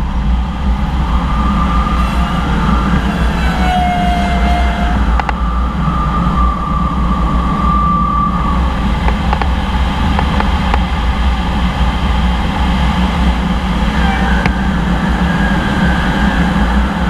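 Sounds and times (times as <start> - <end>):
airflow rushing around cockpit: 0.0 - 17.0.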